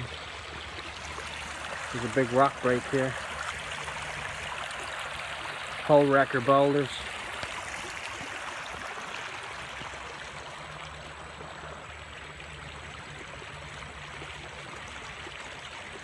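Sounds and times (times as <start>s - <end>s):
river water rushing over rocks: 0.0s - 15.3s.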